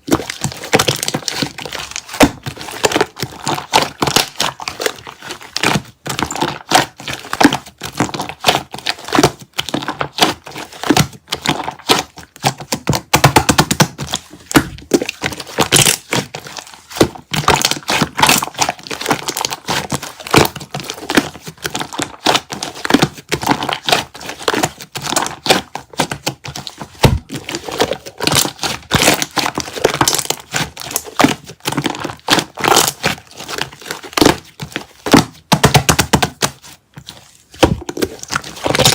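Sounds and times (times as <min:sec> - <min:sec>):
slime crackling and popping: 0:00.0 - 0:38.9.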